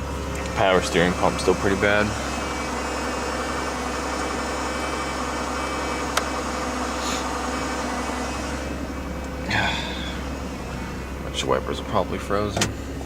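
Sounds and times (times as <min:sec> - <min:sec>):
car engine idling: 0:00.0 - 0:13.0
power steering pump whine: 0:00.0 - 0:13.0.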